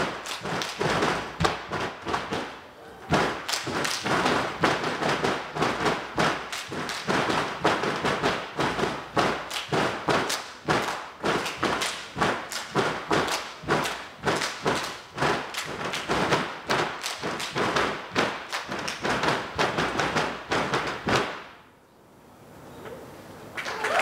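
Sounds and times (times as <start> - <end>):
foot stomps: 0.0 - 21.5
hand claps: 0.0 - 21.5, 23.6 - 24.0.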